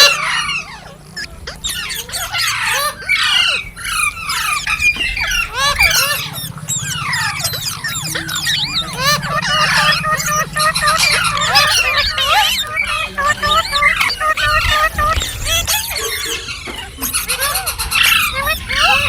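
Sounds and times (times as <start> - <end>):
parrot chirping and squawking: 0.0 - 19.0
steady low hum: 0.0 - 19.0.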